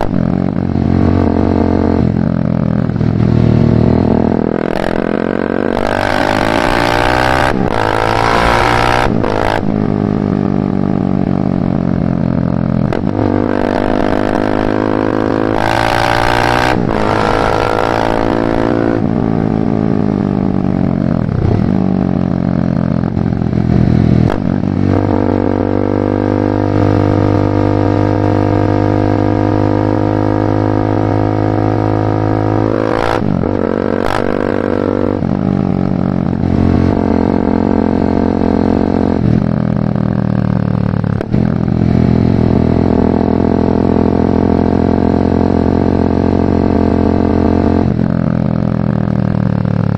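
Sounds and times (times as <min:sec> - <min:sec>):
motorcycle engine shifting gears: 0:00.0 - 0:49.9.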